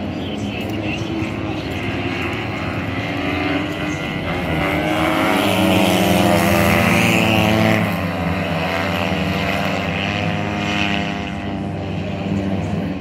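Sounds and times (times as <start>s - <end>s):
motorcycles racing at high revs: 0.0s - 13.0s.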